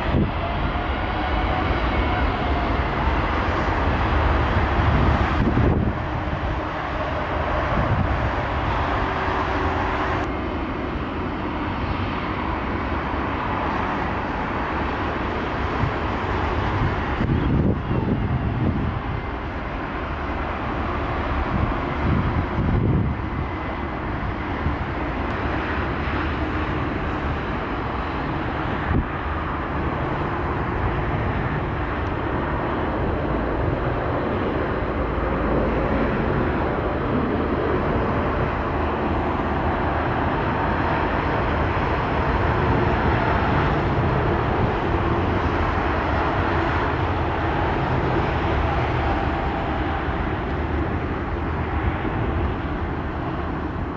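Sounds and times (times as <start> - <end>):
jet engines droning: 0.0 - 53.9
wind rumble on microphone: 0.0 - 53.9.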